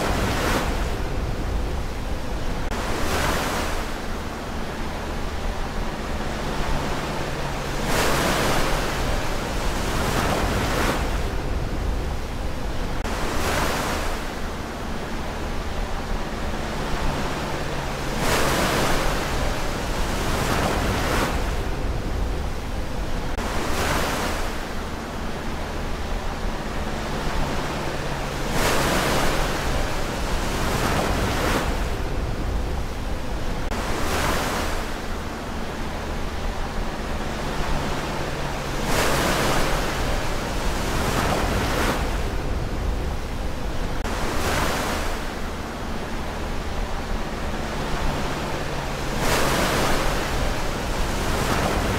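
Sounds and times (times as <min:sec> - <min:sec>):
waves breaking and washing in: 0:00.0 - 0:51.9.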